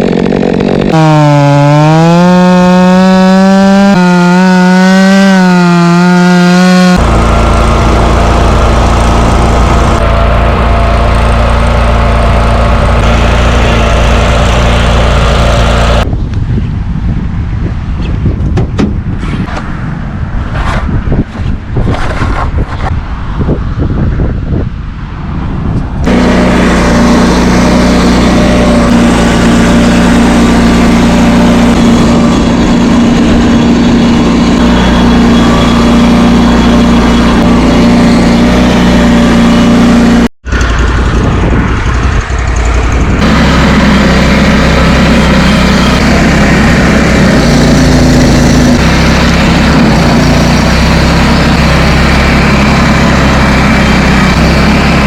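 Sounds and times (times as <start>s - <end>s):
loud machine engine running: 0.0s - 16.1s, 26.0s - 55.0s.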